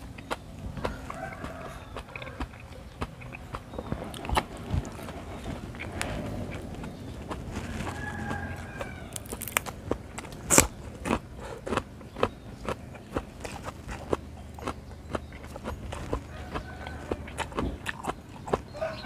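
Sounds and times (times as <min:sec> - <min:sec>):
man chewing with wet smacks: 0:00.0 - 0:19.0.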